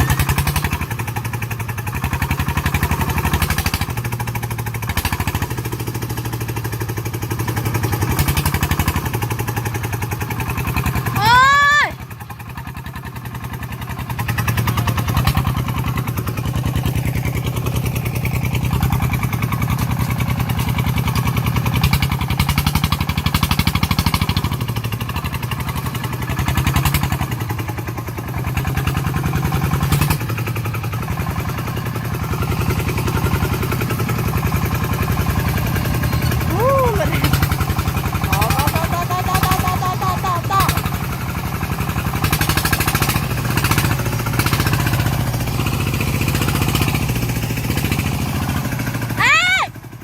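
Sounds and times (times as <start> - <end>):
diesel engine knocking: 0.0 - 50.0.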